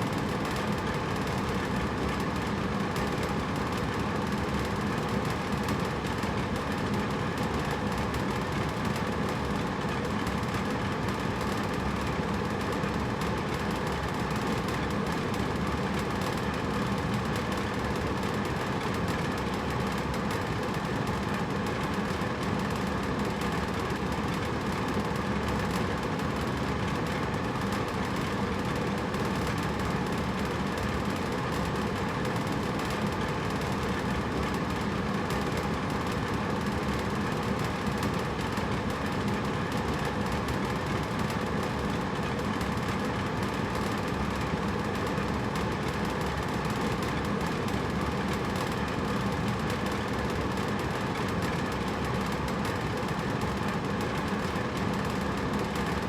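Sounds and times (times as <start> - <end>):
air conditioner running: 0.0 - 56.0.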